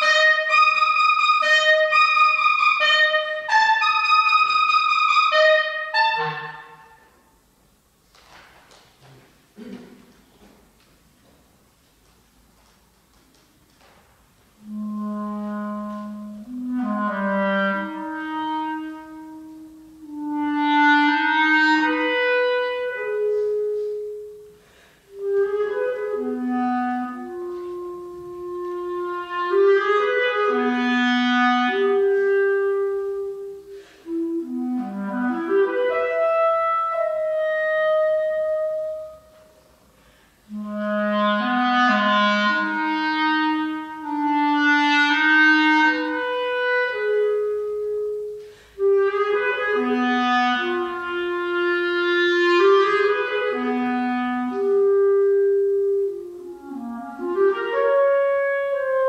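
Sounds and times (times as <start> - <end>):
solo clarinet playing: 0.0 - 7.2, 14.5 - 59.0.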